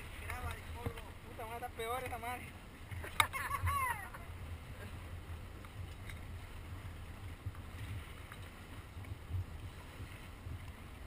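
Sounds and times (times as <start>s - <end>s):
faint wind and water noise: 0.0s - 11.0s
low uneven boat rumble: 0.0s - 11.0s.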